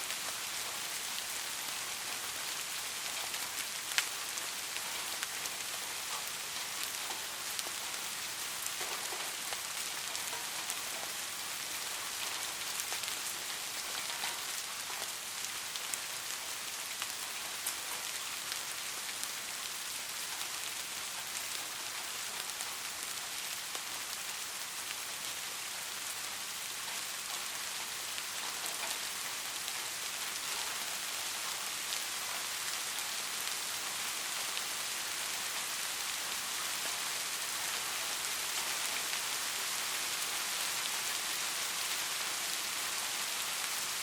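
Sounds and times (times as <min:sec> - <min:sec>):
rain hissing on a surface: 0:00.0 - 0:44.0.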